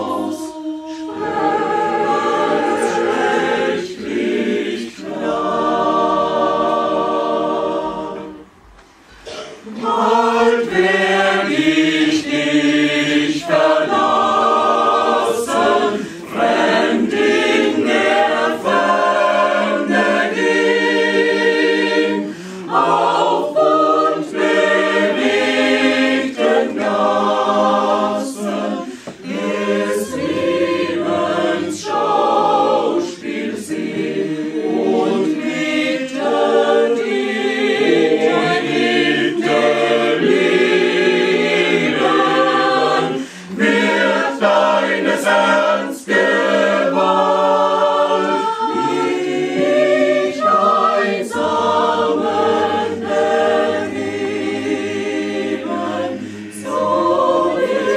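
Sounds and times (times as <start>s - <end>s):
mixed choir singing a cappella: 0.0s - 57.9s.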